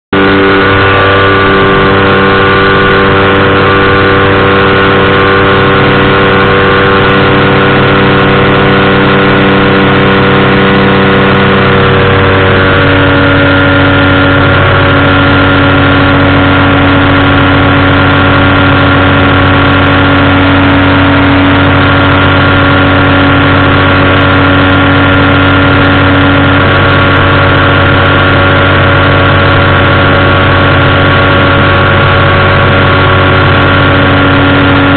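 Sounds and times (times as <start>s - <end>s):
engine and propeller running: 0.0s - 34.9s.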